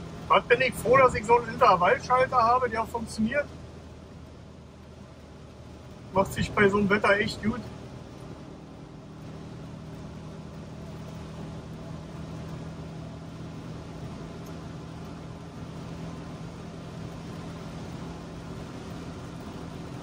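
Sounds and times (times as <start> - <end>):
rain: 0.0 - 20.0
road noise: 0.0 - 20.0.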